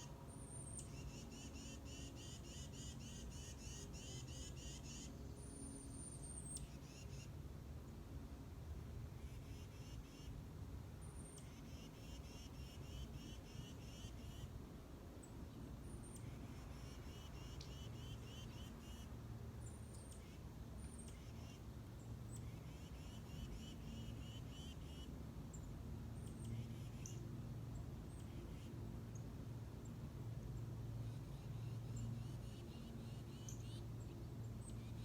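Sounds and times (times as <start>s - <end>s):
songbird singing: 0.0s - 7.3s, 9.2s - 10.4s, 11.0s - 14.6s, 15.2s - 35.0s.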